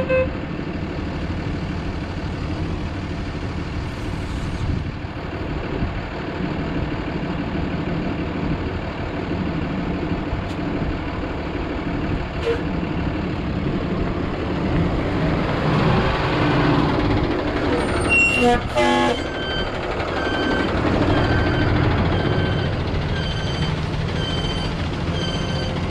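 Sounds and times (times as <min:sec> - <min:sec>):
truck engine running: 0:00.0 - 0:25.9.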